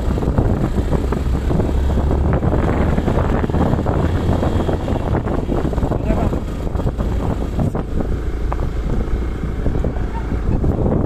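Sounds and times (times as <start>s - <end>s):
vehicle engine and road rumble: 0.0s - 11.0s
wind buffeting microphone: 0.0s - 11.0s.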